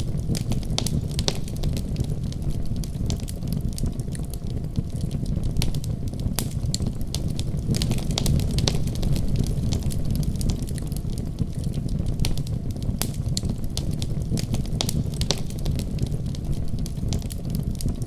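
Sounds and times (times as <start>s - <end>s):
burning wood crackling and popping: 0.0s - 18.0s
rumble of fire flames: 0.0s - 18.0s.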